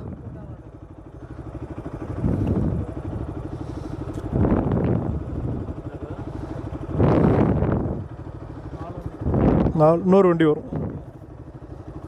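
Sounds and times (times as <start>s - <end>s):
motorcycle engine idling: 0.0s - 12.0s
noisy engine swells: 0.0s - 12.0s.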